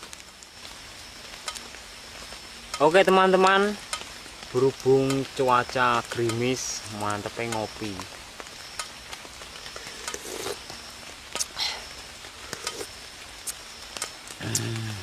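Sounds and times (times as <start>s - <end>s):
light drizzle hissing: 0.0s - 15.0s
rain taps and clicks: 0.0s - 15.0s.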